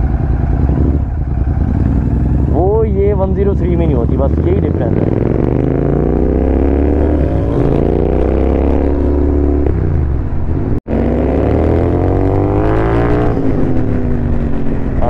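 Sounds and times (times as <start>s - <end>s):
motorcycle accelerating: 0.0s - 15.0s.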